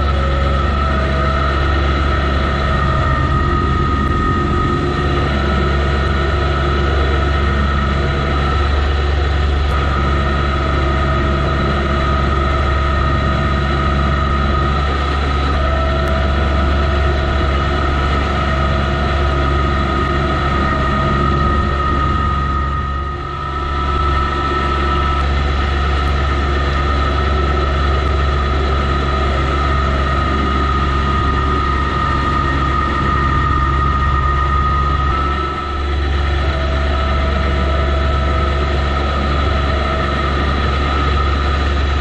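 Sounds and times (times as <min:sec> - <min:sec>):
high-pitched whine: 0:00.0 - 0:42.0
tractor diesel engine running: 0:00.0 - 0:42.0.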